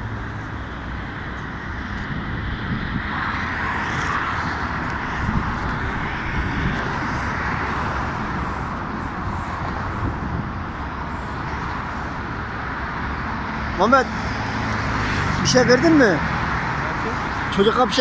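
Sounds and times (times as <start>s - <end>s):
busy road traffic: 0.0s - 18.0s.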